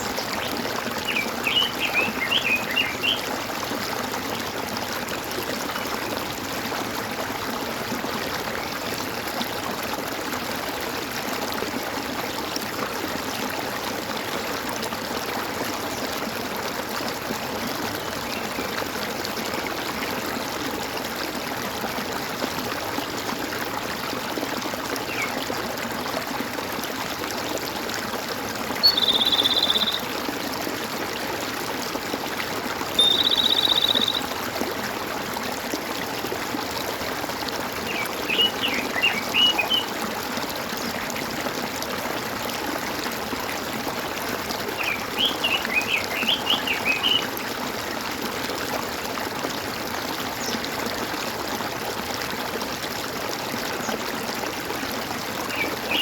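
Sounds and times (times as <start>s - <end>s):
stream gurgling: 0.0s - 56.0s.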